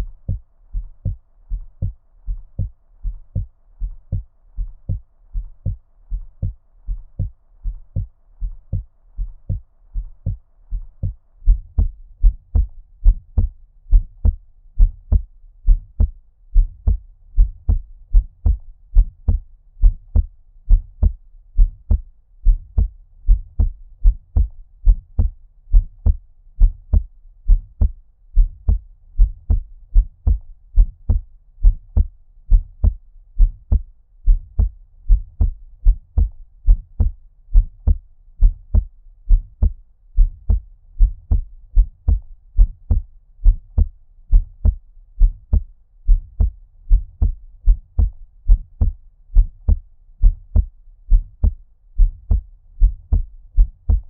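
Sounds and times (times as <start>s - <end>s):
muffled heartbeat: 0.0s - 54.0s.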